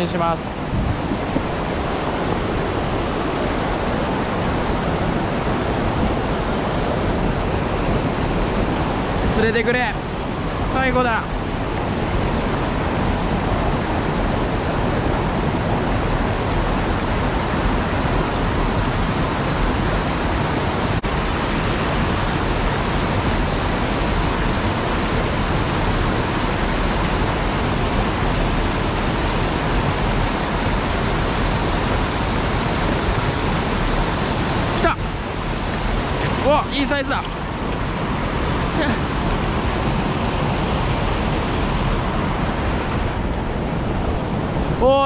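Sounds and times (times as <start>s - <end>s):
water rushing over a weir: 0.0s - 45.0s.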